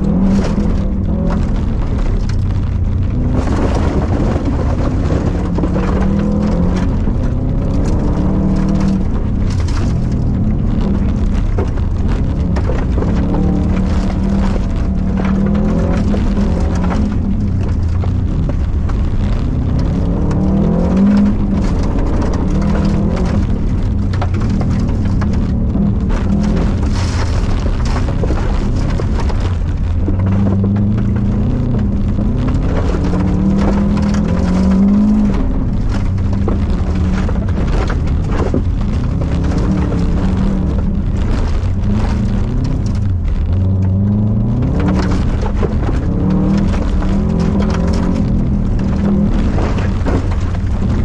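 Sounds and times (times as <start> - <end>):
car engine revving: 0.0 - 51.0
gravel rattling against underside: 0.0 - 51.0.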